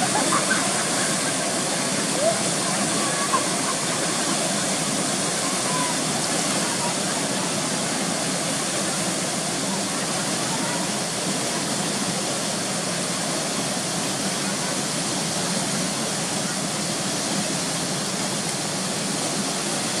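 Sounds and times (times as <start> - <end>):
river rushing through rapids: 0.0 - 20.0.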